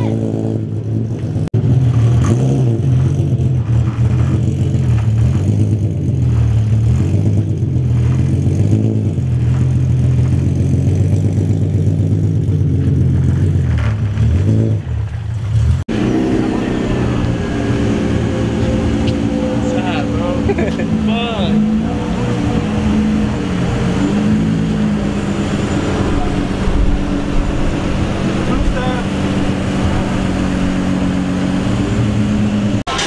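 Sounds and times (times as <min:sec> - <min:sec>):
car engine running at low revs: 0:00.0 - 0:33.0.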